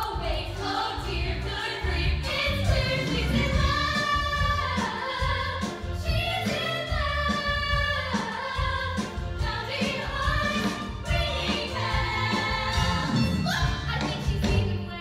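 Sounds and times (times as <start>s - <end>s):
women's chorus singing in harmony: 0.0s - 13.6s.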